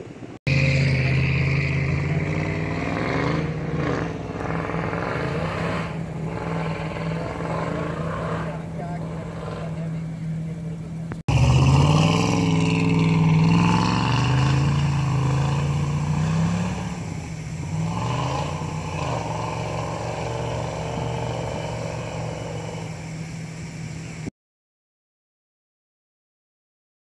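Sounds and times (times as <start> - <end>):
car engine revving: 0.0 - 24.3.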